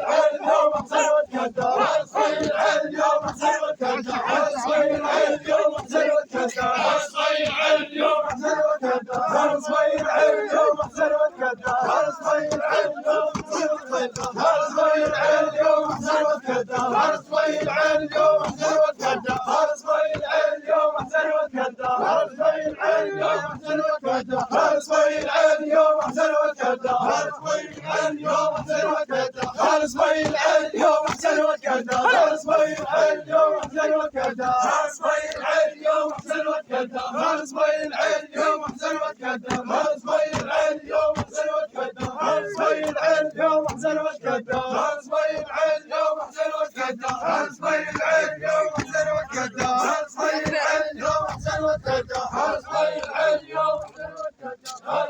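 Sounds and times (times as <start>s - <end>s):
crowd of men chanting: 0.0s - 55.0s.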